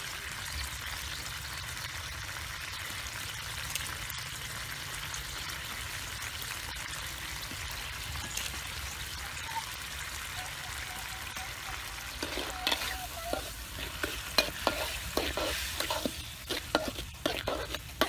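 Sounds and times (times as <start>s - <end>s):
sauce sizzling in a wok: 0.0s - 18.0s.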